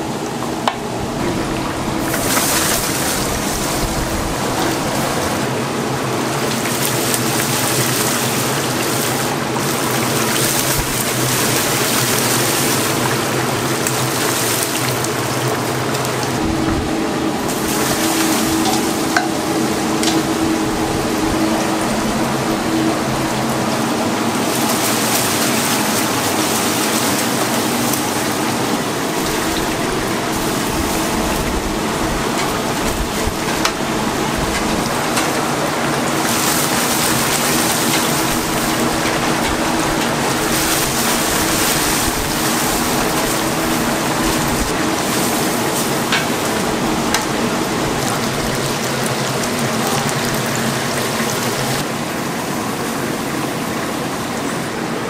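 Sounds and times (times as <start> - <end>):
chicken deep-frying in oil: 0.0 - 55.0
low steady hum: 0.0 - 55.0.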